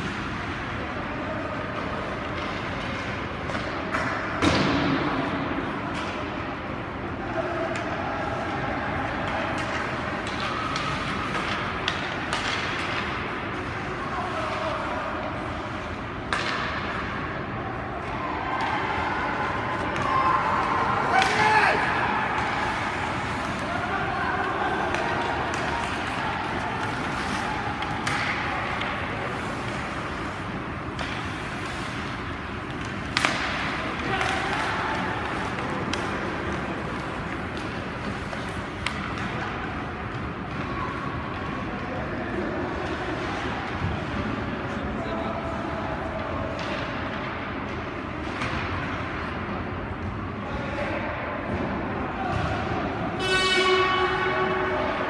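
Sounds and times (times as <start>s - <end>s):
hockey sticks and puck clicking: 0.0s - 7.0s, 7.6s - 50.6s
arena noise: 0.0s - 55.0s
skating and rink noise: 0.0s - 55.0s.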